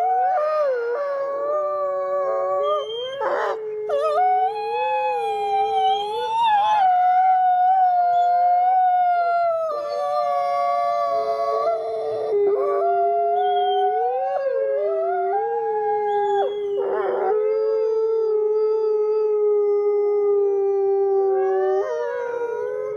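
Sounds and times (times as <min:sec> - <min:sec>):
wolves howling in chorus: 0:00.0 - 0:18.6, 0:19.6 - 0:22.9.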